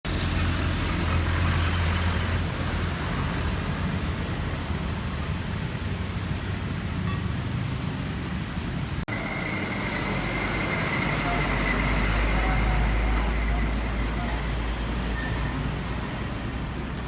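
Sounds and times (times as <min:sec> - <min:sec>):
city road traffic: 0:00.0 - 0:17.0
heavy vehicle engine drone: 0:00.0 - 0:17.0.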